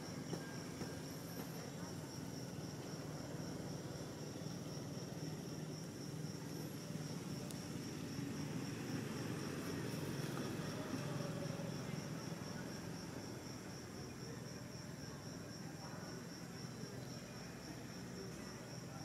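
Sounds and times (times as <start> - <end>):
low steady background rumble: 0.0 - 19.0.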